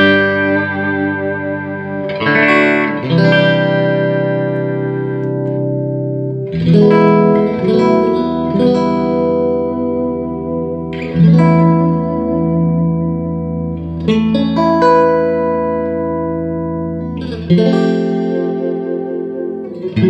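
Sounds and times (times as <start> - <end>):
electric guitar chords ringing: 0.0 - 20.0.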